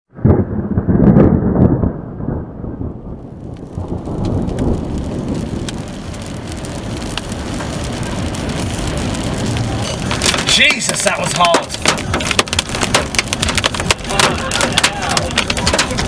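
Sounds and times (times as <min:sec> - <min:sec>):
sharp raindrop hits: 0:00.1 - 0:16.0
thunder clap rumbling: 0:00.1 - 0:16.0
rain on a car: 0:02.9 - 0:16.0.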